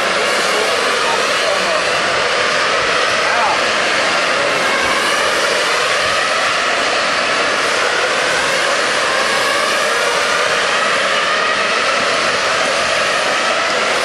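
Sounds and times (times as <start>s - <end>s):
loud machine whirring: 0.0s - 14.0s.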